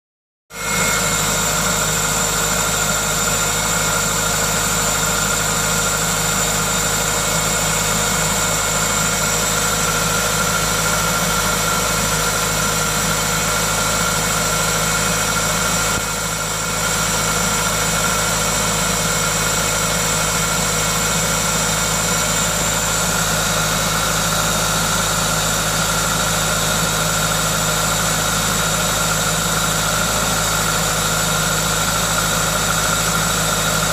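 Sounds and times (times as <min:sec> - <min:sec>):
car engine idling: 0:00.5 - 0:33.9.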